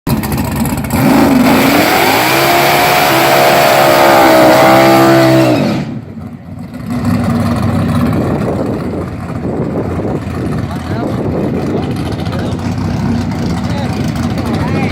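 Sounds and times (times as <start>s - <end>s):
car engine revving: 0.1s - 14.9s.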